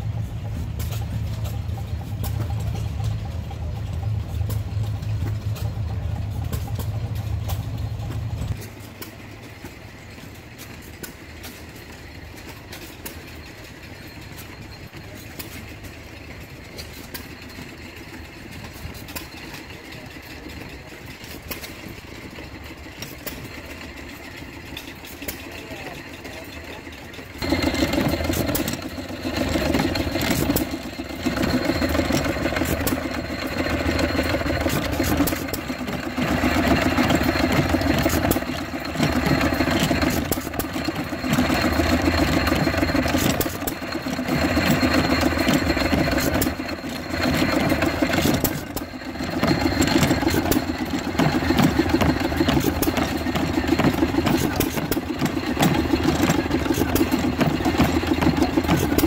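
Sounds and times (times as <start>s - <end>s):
stationary gas engines running: 0.0s - 59.0s.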